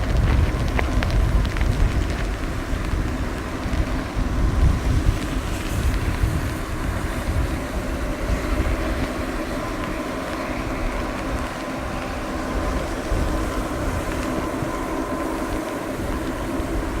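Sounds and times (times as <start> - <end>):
turboprop engines whining: 0.0 - 17.0
wind buffeting the microphone: 0.0 - 17.0.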